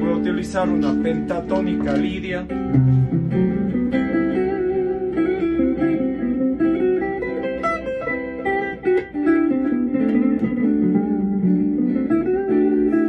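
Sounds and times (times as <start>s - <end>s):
plucked guitar melody: 0.0s - 13.0s
sustained guitar chords: 0.0s - 13.0s.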